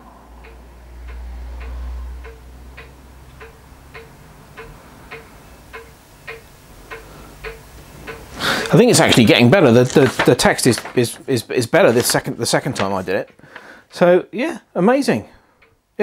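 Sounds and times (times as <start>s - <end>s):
steady ticking: 0.0s - 14.1s.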